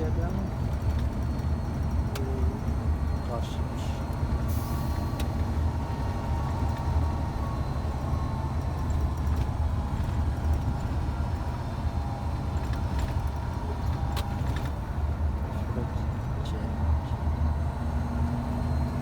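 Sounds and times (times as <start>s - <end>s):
road noise: 0.0s - 19.0s
truck diesel engine rumble: 0.0s - 19.0s.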